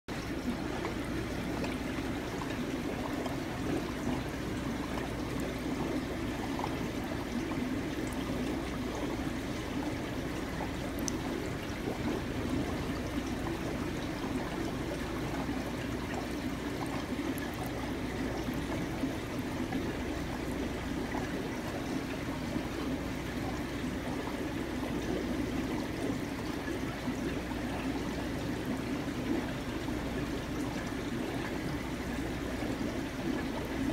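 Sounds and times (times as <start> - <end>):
running water trickling: 0.1 - 33.9.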